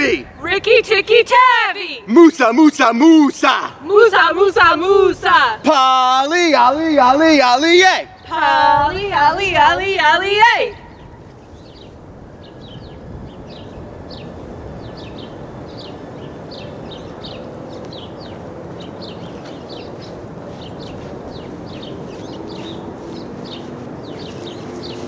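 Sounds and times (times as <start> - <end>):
birds chirping: 0.0 - 25.0
low outdoor rush: 0.0 - 25.0.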